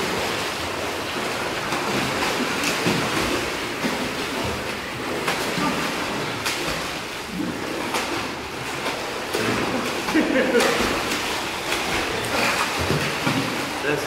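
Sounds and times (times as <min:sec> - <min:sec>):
pool water splashing: 0:00.0 - 0:14.0
sharp splashes: 0:00.0 - 0:14.0.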